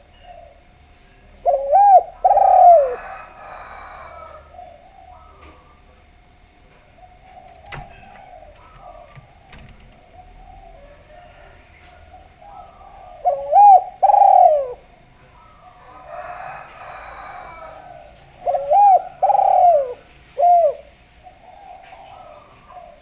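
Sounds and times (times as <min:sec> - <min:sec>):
dove cooing: 0:00.0 - 0:06.0, 0:06.6 - 0:23.0.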